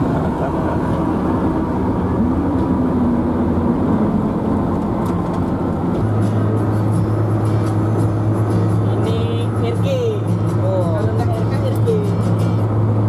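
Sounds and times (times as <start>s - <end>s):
minibus engine and road drone: 0.0s - 13.0s.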